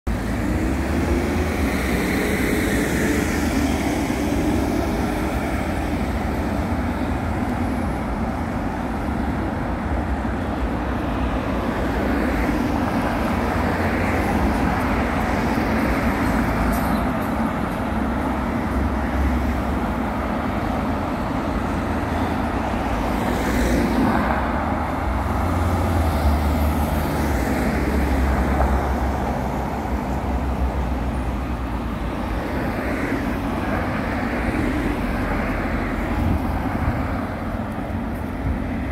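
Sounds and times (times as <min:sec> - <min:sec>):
road traffic: 0:00.0 - 0:38.9.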